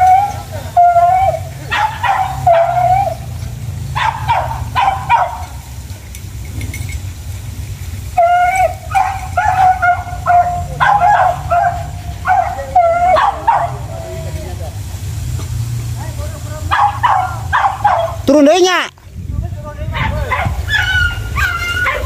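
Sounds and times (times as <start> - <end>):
hunting dogs yelping and baying: 0.0 - 14.6, 16.6 - 18.5, 19.9 - 22.0.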